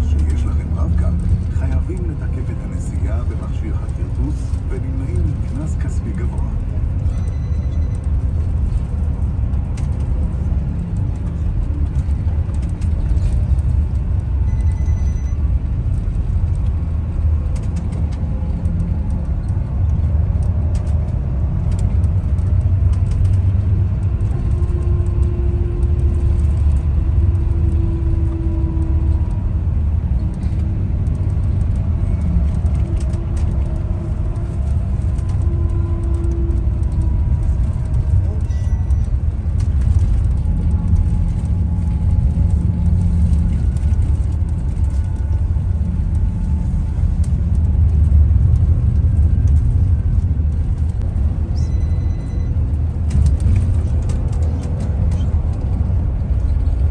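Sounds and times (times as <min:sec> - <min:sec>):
bus engine rumble: 0:00.0 - 0:56.9
road noise: 0:00.0 - 0:56.9.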